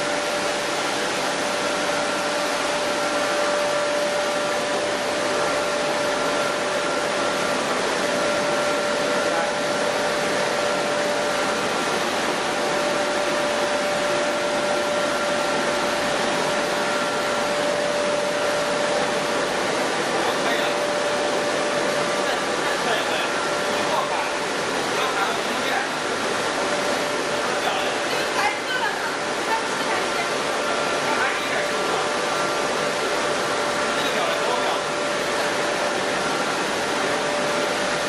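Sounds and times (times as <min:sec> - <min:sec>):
milling machinery running: 0:00.0 - 0:38.0.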